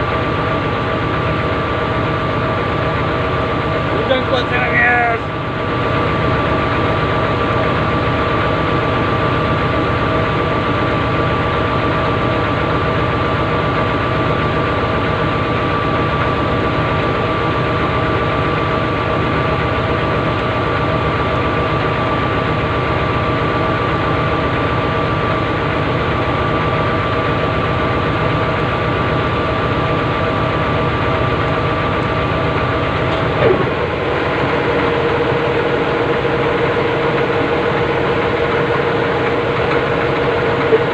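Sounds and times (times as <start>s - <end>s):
constant whine: 0.0s - 40.9s
heavy machine engine running: 0.0s - 40.9s.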